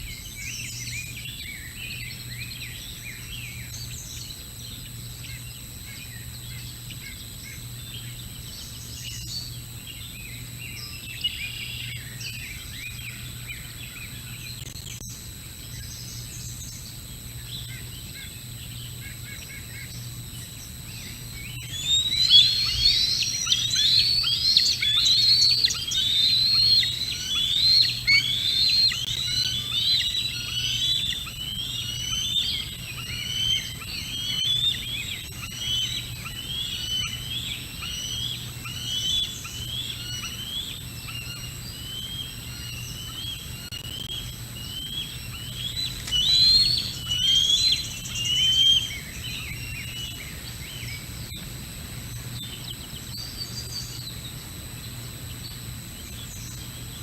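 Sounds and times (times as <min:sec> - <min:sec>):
low steady hum: 0:00.0 - 0:57.0
bird chirping: 0:00.1 - 0:51.4.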